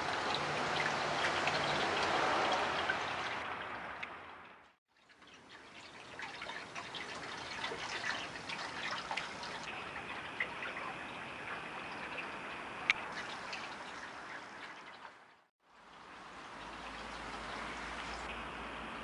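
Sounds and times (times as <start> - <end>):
spring water trickling and splashing: 0.0 - 19.0
water drips: 0.0 - 19.0.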